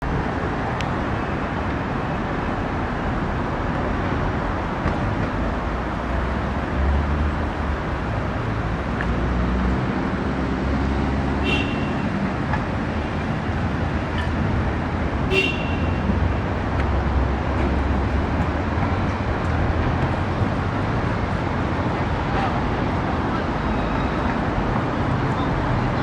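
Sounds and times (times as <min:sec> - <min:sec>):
railway and road traffic rumble: 0:00.0 - 0:26.0.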